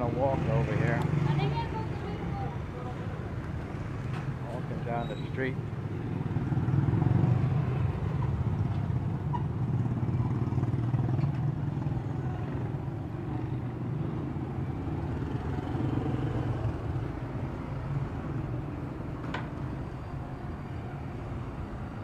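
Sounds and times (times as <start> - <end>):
motorcycle engines passing: 0.0 - 22.0.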